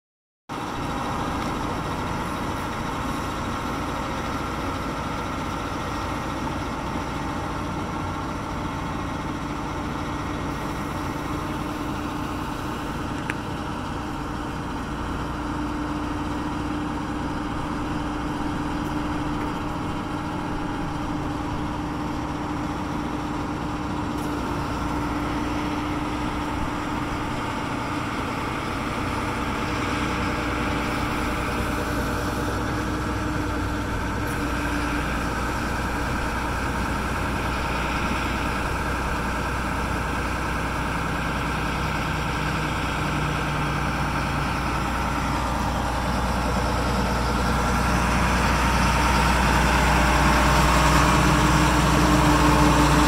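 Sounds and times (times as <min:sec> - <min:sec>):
engine idling: 0:00.5 - 0:53.0.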